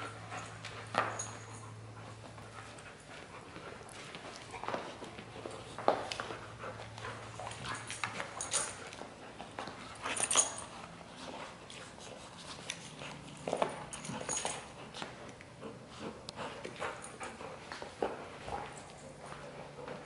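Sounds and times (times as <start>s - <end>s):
dogs play growling: 0.0s - 20.0s
dogs scuffling: 0.0s - 20.0s.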